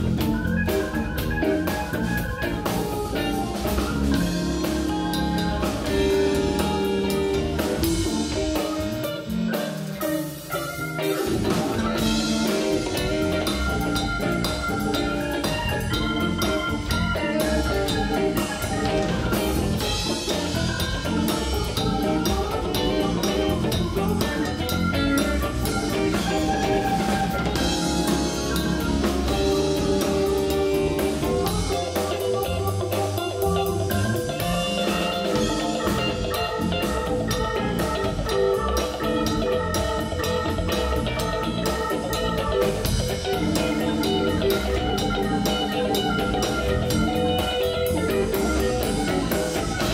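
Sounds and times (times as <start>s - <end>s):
drum kit beat: 0.0s - 49.9s
electric bass: 0.0s - 49.9s
electric guitar: 0.0s - 49.9s
keyboard: 0.0s - 49.9s.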